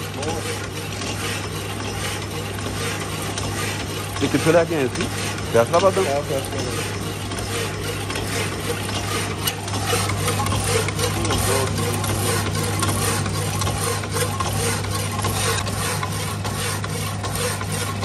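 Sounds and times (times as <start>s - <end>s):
electric motor hum: 0.0s - 18.0s
hacksaw blade rasping on steel: 0.0s - 18.0s.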